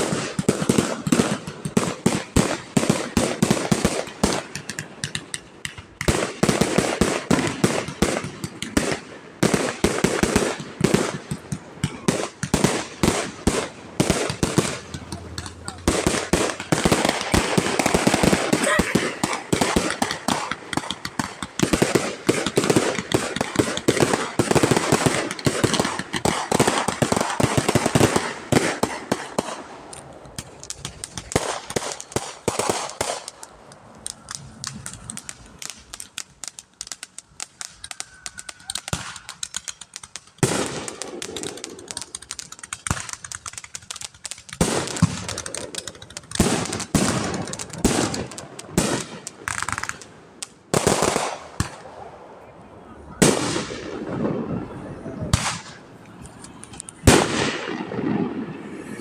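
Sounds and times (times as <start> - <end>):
fireworks cracks and bangs: 0.0 - 59.0.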